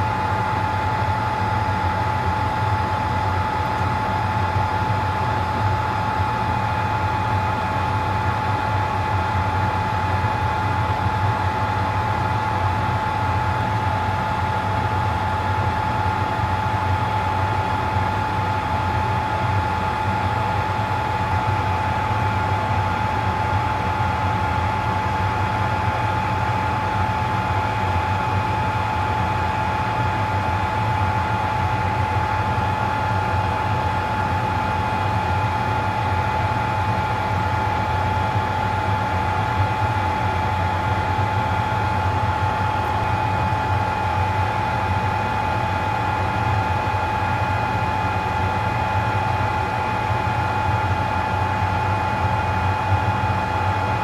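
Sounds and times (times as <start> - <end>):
electric blower fans running: 0.0 - 54.0.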